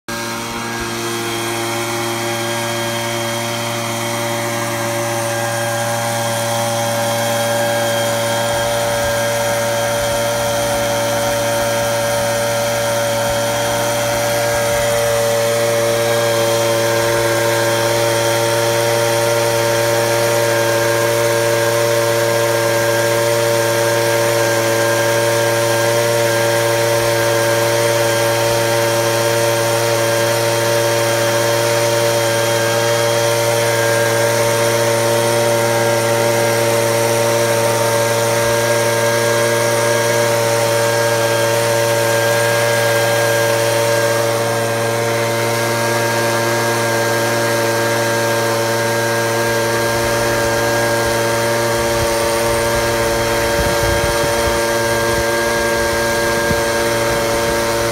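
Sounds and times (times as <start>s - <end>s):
leaf blower running: 0.0s - 57.9s.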